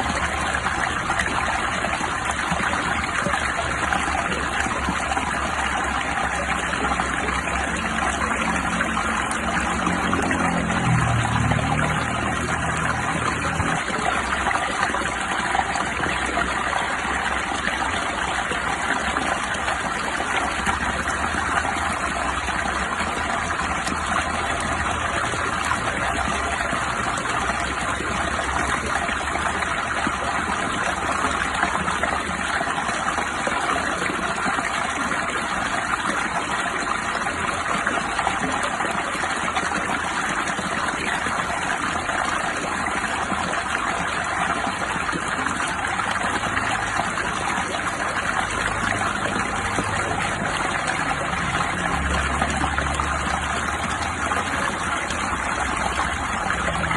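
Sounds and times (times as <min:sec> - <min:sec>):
rushing water: 0:00.0 - 0:56.9.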